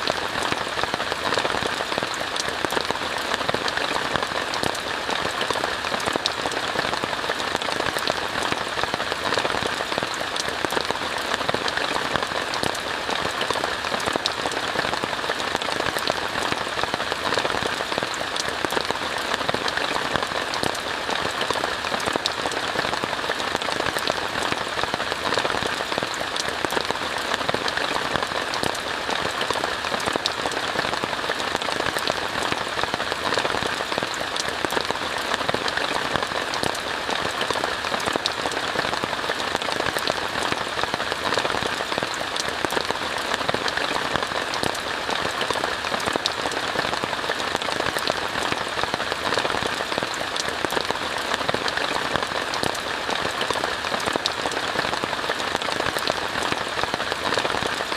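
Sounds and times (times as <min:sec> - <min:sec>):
rain pattering on a tent: 0:00.0 - 0:57.9.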